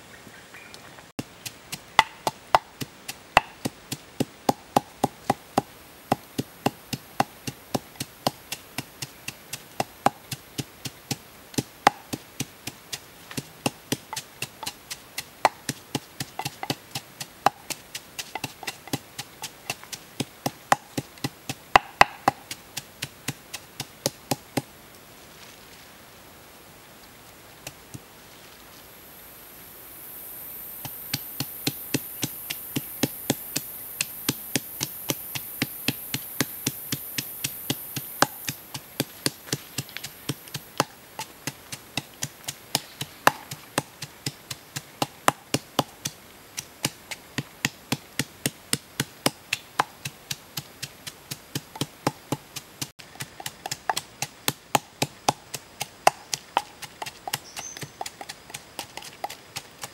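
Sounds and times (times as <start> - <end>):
high steady hiss: 0.0 - 59.9
pestle pounding in wooden mortar: 1.2 - 24.6, 30.8 - 59.9.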